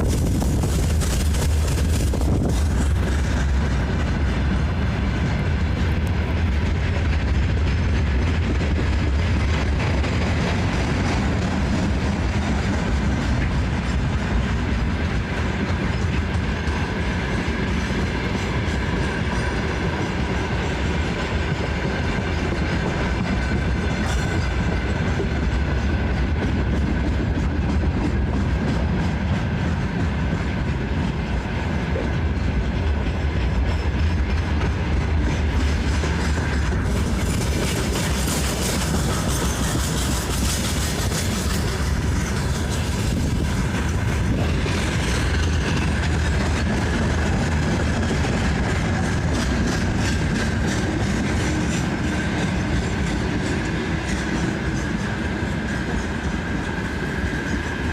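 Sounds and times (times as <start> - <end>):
train wagons rumbling: 0.0 - 57.9
wheels clickety-clack: 0.0 - 57.9.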